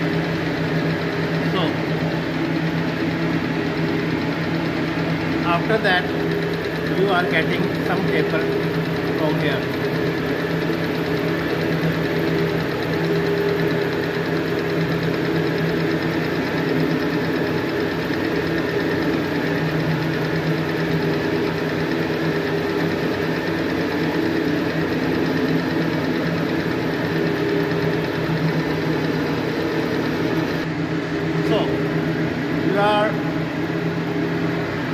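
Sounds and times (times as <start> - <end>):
lathe machine hum: 0.0 - 34.9.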